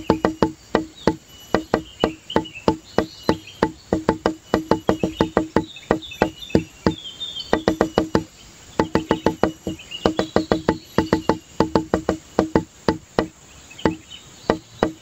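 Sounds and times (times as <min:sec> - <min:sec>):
faint high-pitched chirping: 0:00.0 - 0:15.0
sharp ringing knocks: 0:00.0 - 0:15.0.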